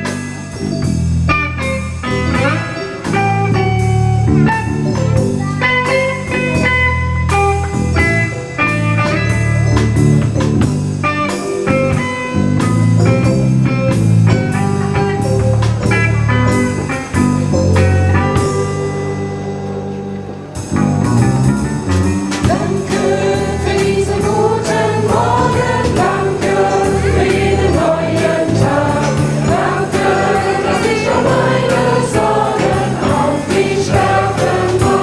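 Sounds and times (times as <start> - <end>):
drum kit: 0.0 - 19.5, 20.5 - 35.0
bass: 0.0 - 35.0
guitar notes: 0.0 - 35.0.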